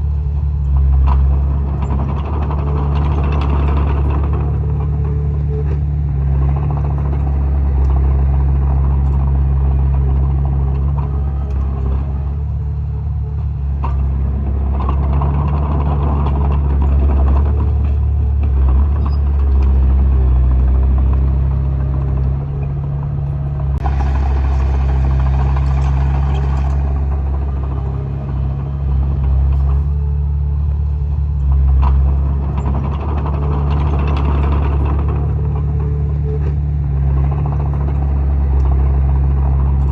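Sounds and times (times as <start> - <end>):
earthmoving machine engine running: 0.0 - 39.9.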